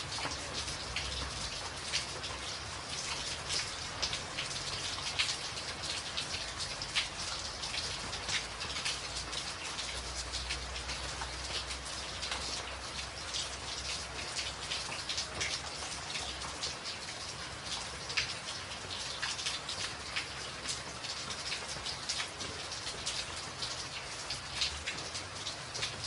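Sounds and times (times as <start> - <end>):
rain on a tin roof: 0.0 - 26.0.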